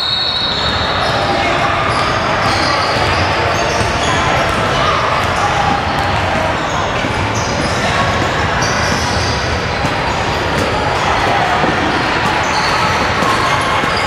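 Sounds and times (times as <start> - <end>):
crowd chatter echoing: 0.0 - 14.0
sneaker squeaks: 0.0 - 14.0
basketball bouncing on court: 1.0 - 14.0.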